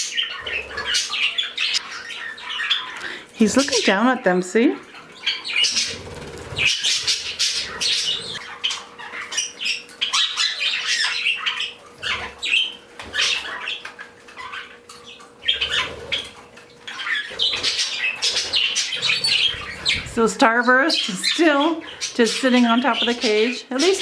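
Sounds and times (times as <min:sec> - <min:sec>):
parakeets chirping and squawking: 0:00.0 - 0:24.0.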